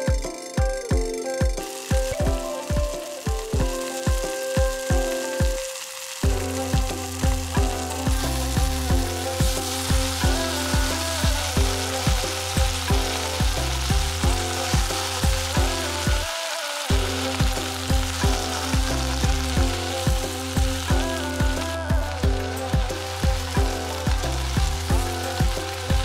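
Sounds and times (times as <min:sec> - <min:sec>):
background music with a beat: 0:00.0 - 0:26.0
food sizzling in a pot: 0:00.0 - 0:26.0.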